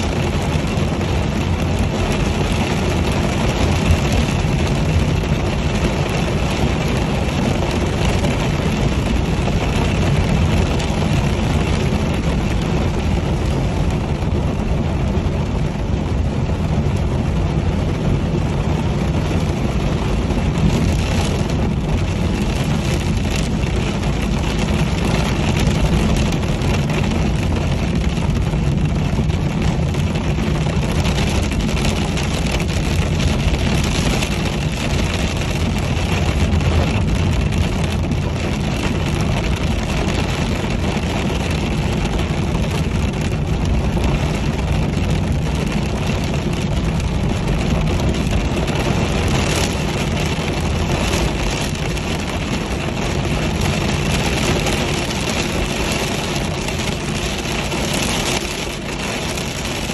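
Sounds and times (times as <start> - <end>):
engine and tyre rumble: 0.0 - 59.9
rain hitting windscreen: 0.0 - 59.9.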